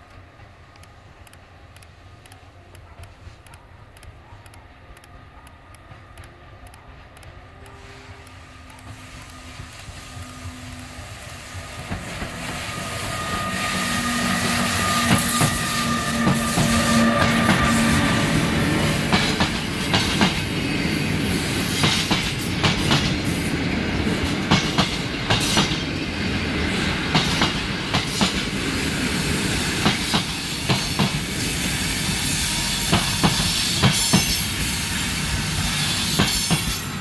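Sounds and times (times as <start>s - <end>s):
electric locomotive whine: 0.0s - 37.0s
wheels on rails: 0.0s - 37.0s.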